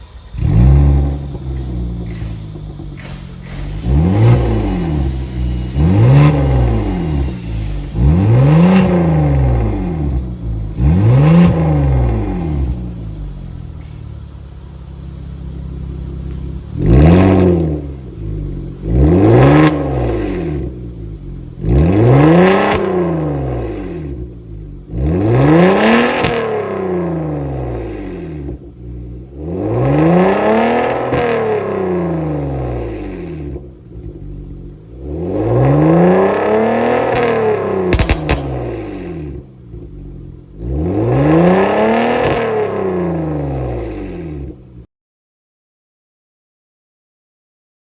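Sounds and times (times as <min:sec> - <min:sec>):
exhaust crack: 0:00.0 - 0:44.8
car engine revving: 0:00.0 - 0:44.9.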